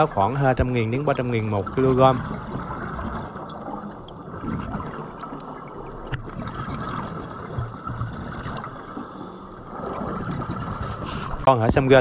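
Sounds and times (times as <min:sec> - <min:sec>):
underwater rushing and gurgling: 0:00.0 - 0:12.0.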